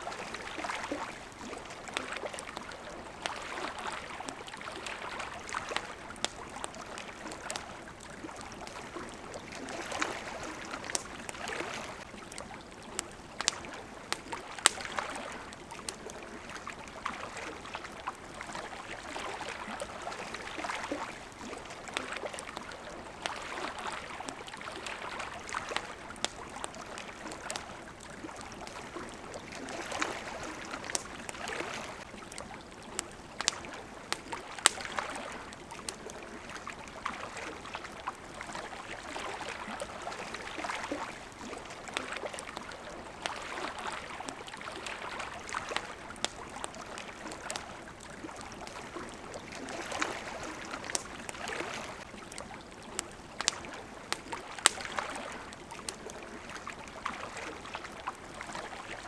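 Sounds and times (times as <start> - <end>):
campfire crackling and popping: 0.0 - 59.0
small waves lapping: 0.0 - 59.0.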